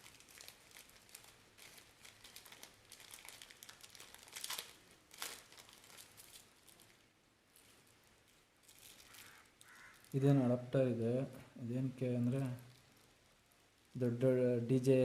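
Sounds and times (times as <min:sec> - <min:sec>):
packaging crinkling and rustling: 0:00.0 - 0:10.2, 0:12.0 - 0:14.0.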